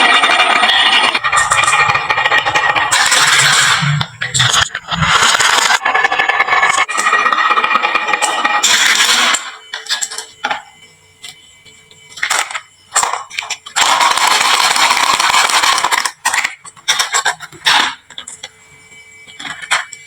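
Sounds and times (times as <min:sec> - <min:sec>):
marbles clicking on wooden slope: 0:00.0 - 0:10.3, 0:12.2 - 0:18.3.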